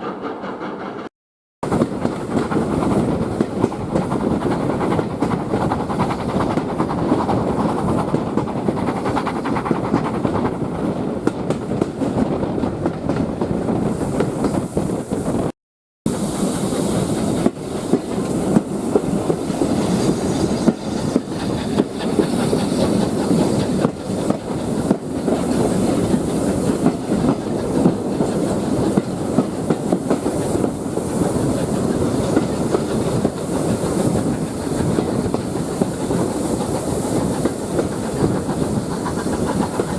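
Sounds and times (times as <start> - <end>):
wheels clicking over rail joints: 0.0 - 13.6, 16.8 - 39.9
train rumbling on rails: 0.0 - 39.9.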